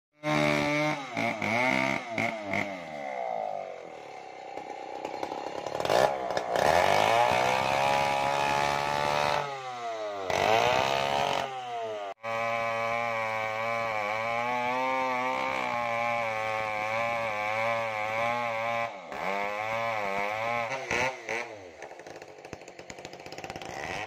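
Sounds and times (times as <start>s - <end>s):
chainsaw cutting log: 0.2s - 24.0s.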